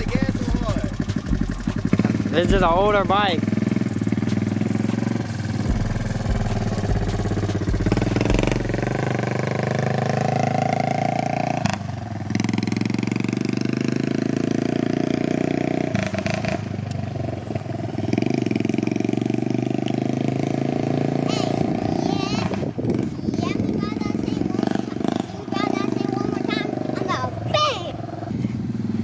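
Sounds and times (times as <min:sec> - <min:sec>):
atv engine revving: 0:00.0 - 0:29.0.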